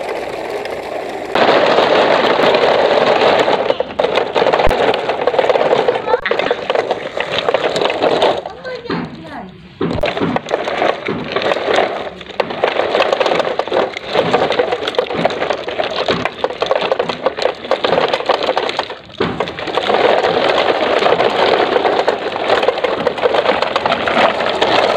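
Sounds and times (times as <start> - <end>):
plastic toy wheels rolling on concrete: 0.0 - 24.9.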